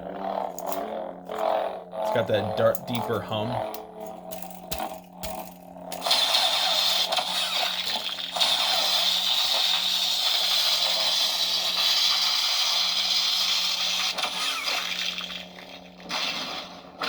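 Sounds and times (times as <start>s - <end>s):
deep lightsaber blade hum: 0.0s - 17.0s.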